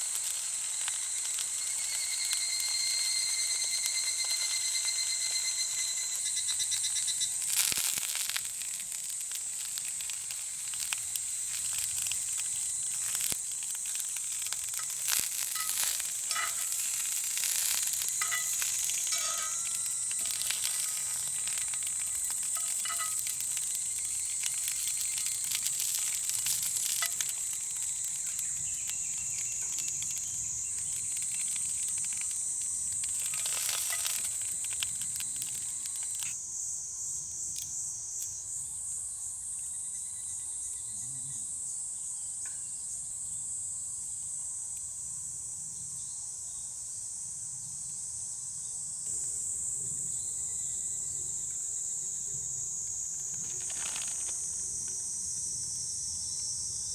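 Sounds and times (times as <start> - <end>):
food sizzling over campfire: 0.0 - 56.9
high-pitched insect chorus: 0.0 - 56.9.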